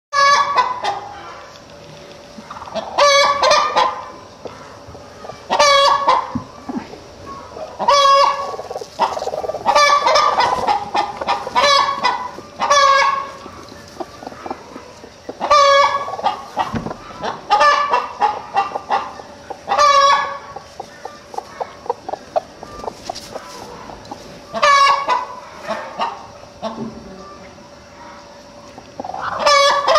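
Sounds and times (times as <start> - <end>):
hen clucking: 0.2 - 27.4, 28.0 - 29.9.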